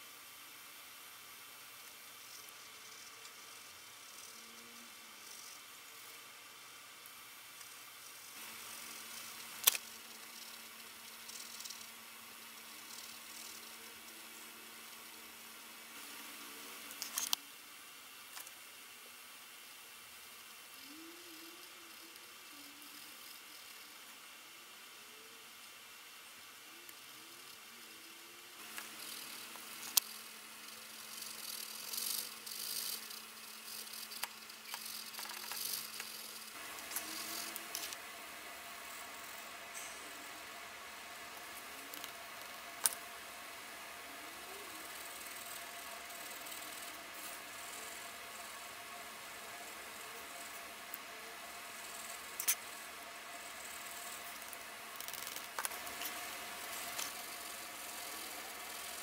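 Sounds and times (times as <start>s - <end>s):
background hiss: 0.0s - 59.0s
faint steady hum: 0.0s - 59.0s.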